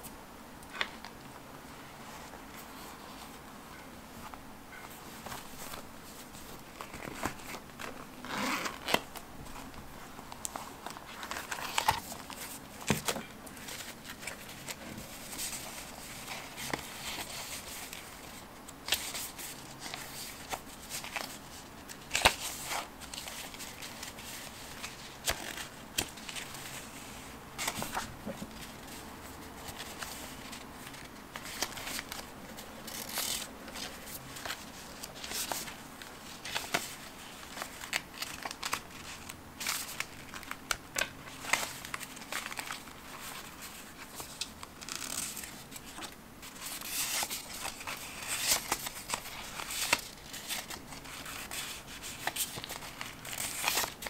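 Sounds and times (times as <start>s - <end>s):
paper cards rustling and shuffling: 4.2s - 54.0s.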